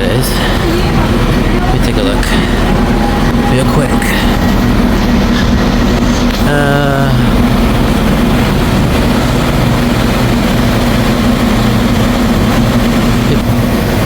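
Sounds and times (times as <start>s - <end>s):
train engine idling: 0.0s - 14.0s.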